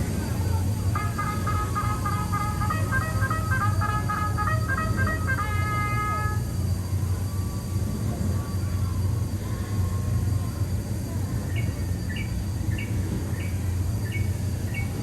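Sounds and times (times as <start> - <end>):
riverboat engine low rumble: 0.0 - 15.0.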